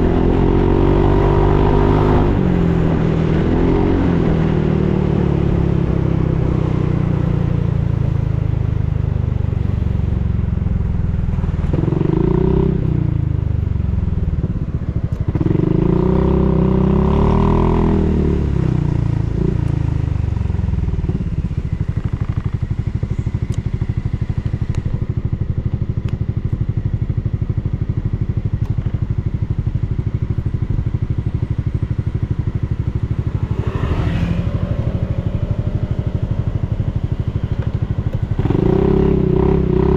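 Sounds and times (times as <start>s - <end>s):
scooter engine revving and idling: 0.0s - 9.2s, 9.9s - 39.9s.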